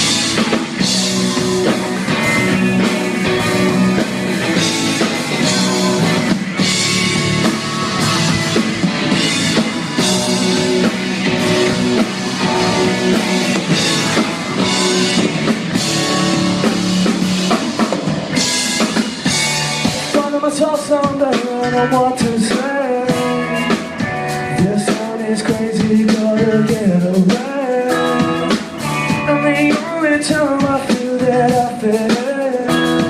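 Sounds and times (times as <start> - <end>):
drum kit beat: 0.0 - 33.0
guitar: 0.0 - 33.0
live rock band playing: 0.0 - 33.0.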